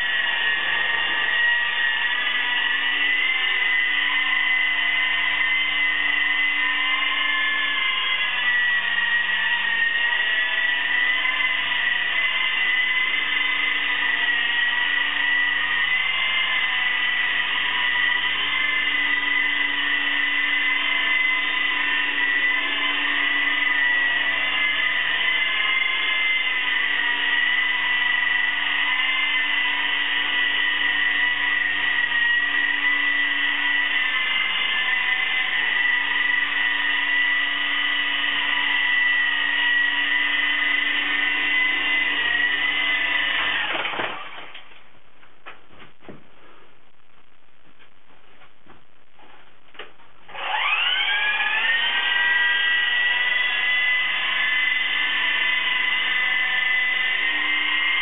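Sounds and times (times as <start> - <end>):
toy helicopter motor whine: 0.0 - 44.4, 50.3 - 58.0.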